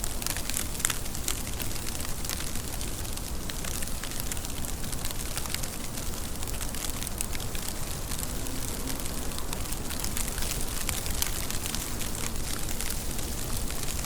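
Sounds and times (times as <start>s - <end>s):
raindrops ticking on a surface: 0.0s - 14.0s
steady rain hiss: 0.0s - 14.0s.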